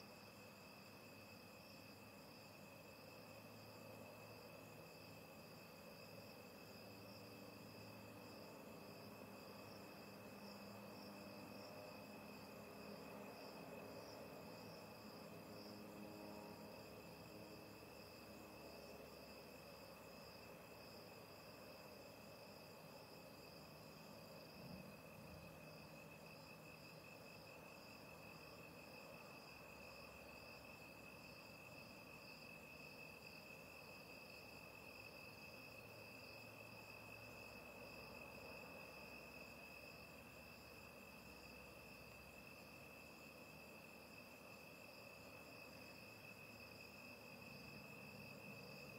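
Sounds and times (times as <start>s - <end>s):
night insects chirring: 0.0s - 48.9s.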